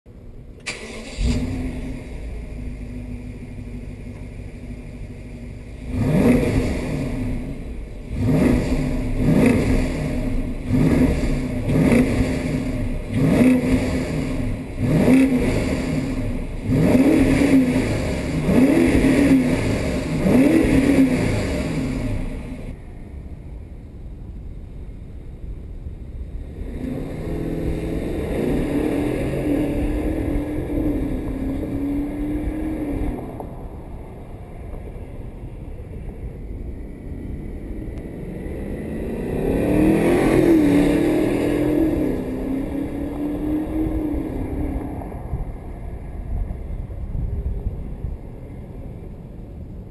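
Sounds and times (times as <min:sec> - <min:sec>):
car engine idling and revving: 0:00.1 - 0:49.9.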